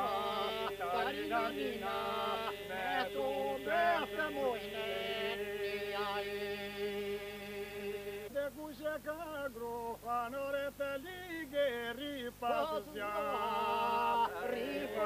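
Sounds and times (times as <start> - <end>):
men singing polyphonic folk song: 0.0 - 15.0.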